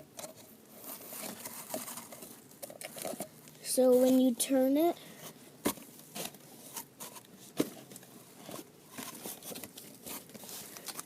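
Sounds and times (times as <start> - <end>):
cardboard crinkling and scraping: 0.1 - 11.0.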